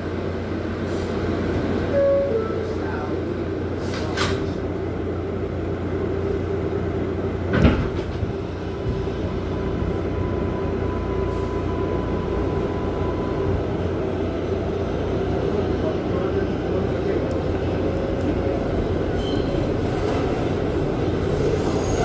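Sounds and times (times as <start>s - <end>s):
wheels rumbling on track: 0.0s - 22.0s.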